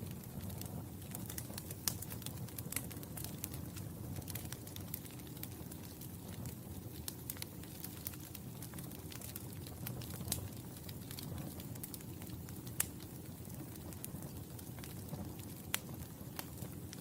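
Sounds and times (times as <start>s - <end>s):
fireplace fire crackling and popping: 0.0s - 17.0s.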